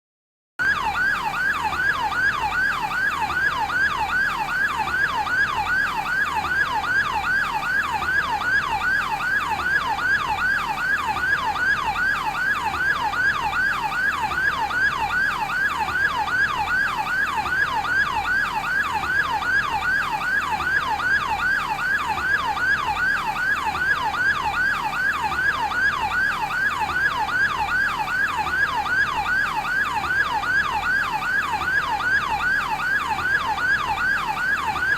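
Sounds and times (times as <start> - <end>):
electronic yelp siren: 0.6 - 34.9.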